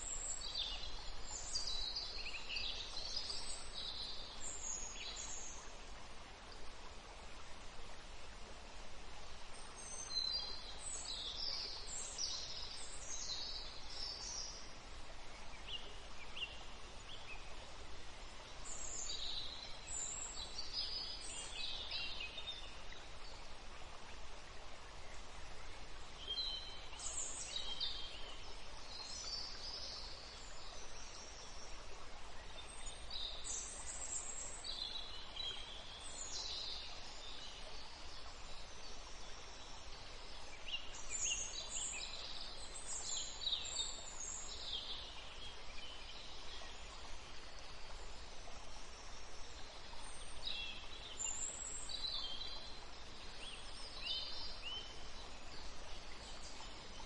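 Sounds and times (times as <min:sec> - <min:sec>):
songbirds chirping: 0:00.0 - 0:57.0
steady outdoor hiss: 0:00.0 - 0:57.0.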